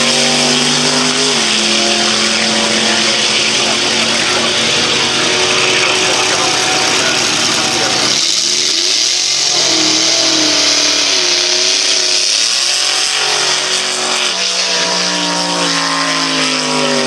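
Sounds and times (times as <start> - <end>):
car engine revving hard: 0.0 - 17.0.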